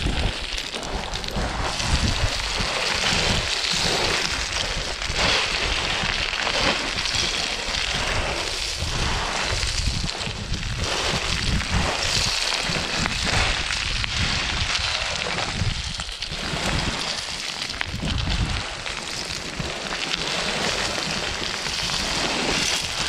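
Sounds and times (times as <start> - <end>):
footsteps crunching on gravel: 0.0 - 23.0
wind rumbling on microphone: 0.0 - 23.0.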